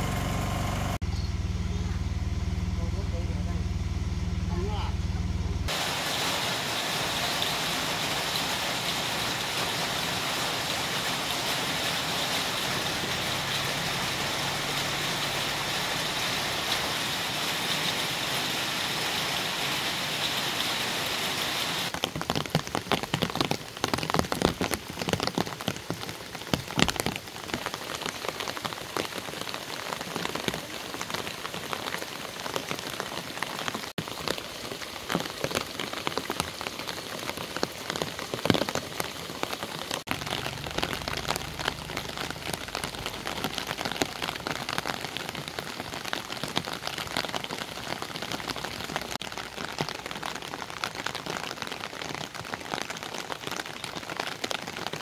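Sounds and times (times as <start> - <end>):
steady rain hiss: 5.6 - 55.0
raindrops pattering: 5.7 - 55.0.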